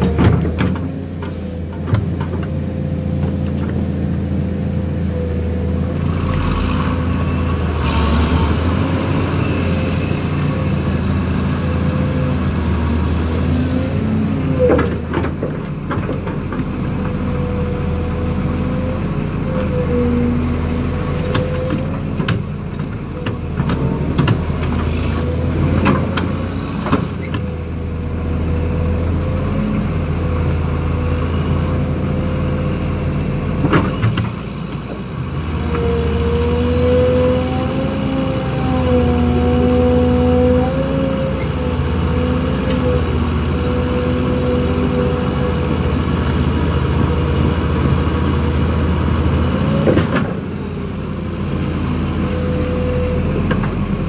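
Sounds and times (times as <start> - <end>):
heavy diesel engines under load: 0.0 - 54.0.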